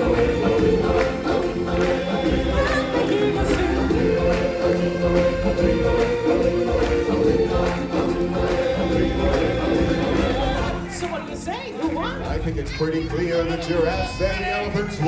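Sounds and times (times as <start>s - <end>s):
choir singing: 0.0s - 14.4s.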